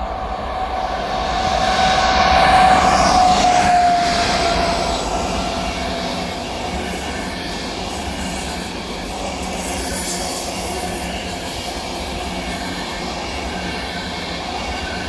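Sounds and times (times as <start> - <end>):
train rush and rumble: 0.0 - 15.0
train whining tone: 0.0 - 15.0.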